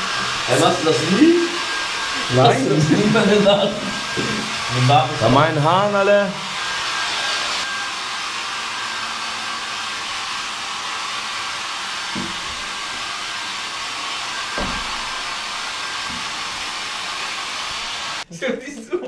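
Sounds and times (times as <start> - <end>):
hair dryer blowing: 0.0 - 18.3.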